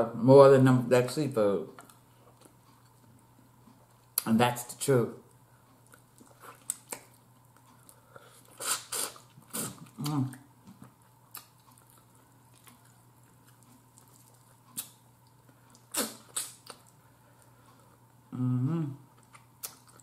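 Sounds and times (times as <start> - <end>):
person chewing and smacking: 1.7 - 4.3, 5.7 - 18.2, 19.0 - 20.0.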